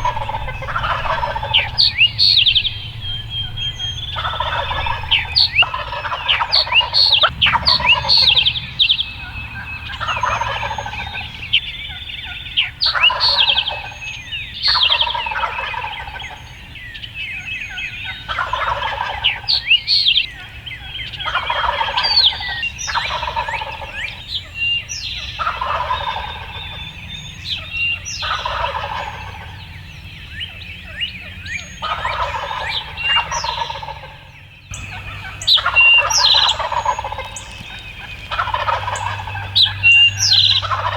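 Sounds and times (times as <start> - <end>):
songbirds chirping: 0.0 - 40.9
turkeys gobbling: 0.0 - 40.9.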